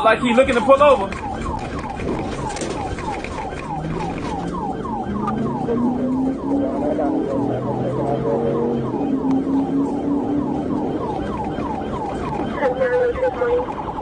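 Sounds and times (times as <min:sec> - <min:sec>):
police siren yelping: 0:00.0 - 0:14.0
vehicle engine accelerating: 0:01.1 - 0:12.6.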